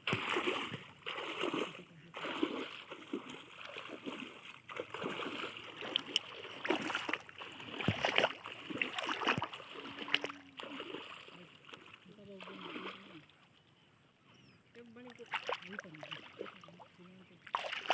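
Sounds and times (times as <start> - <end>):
river water splashing: 0.0 - 13.6, 14.8 - 17.9.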